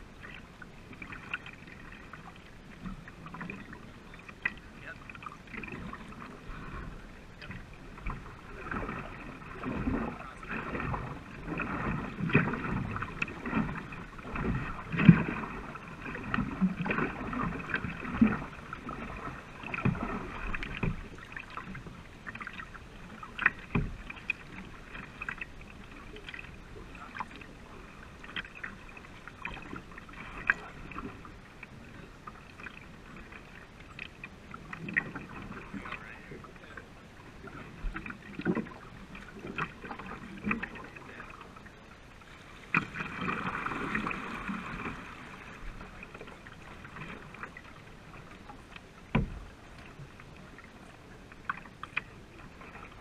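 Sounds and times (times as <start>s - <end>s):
paddle strokes in water: 0.0s - 53.0s
water splashing along hull: 0.0s - 53.0s.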